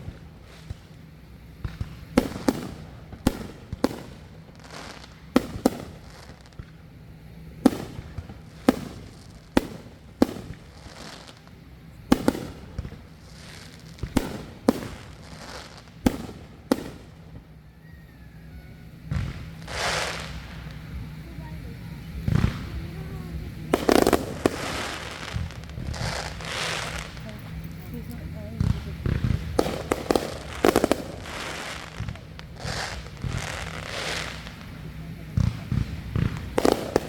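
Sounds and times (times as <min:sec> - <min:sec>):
fireworks bangs with echo: 0:00.0 - 0:17.6, 0:18.8 - 0:37.0.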